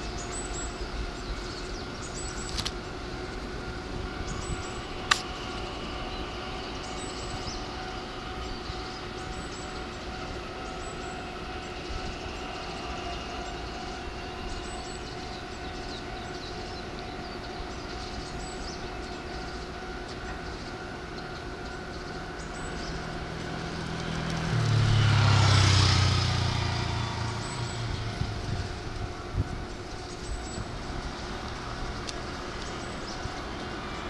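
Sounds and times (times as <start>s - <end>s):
electric train humming: 0.0s - 34.0s.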